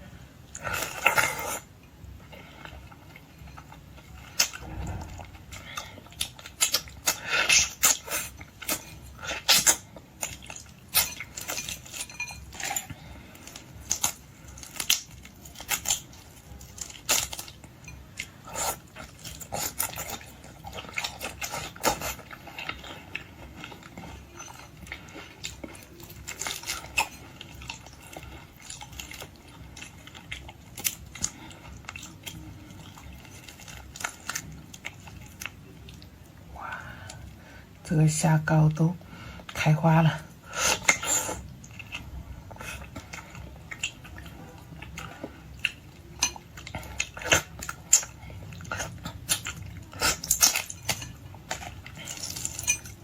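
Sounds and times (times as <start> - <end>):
chewing and mouth sounds: 0.5 - 37.4, 40.3 - 53.0.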